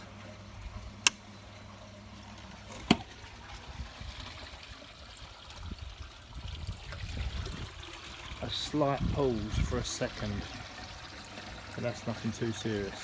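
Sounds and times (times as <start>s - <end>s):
trickling water: 0.0s - 13.0s.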